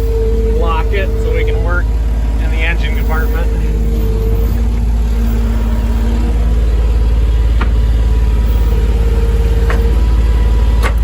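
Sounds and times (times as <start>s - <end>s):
diesel engine running: 0.0s - 11.0s
faint hydraulic whine: 0.0s - 11.0s.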